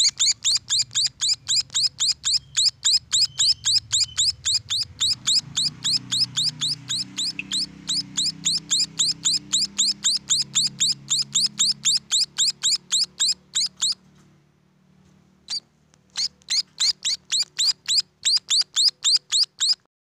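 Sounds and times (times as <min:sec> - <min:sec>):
young birds chirping: 0:00.0 - 0:14.2, 0:15.4 - 0:19.9.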